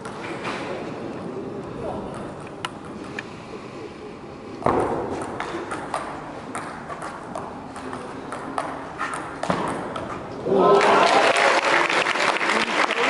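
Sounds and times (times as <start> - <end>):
murmur of spectators: 0.0 - 13.0.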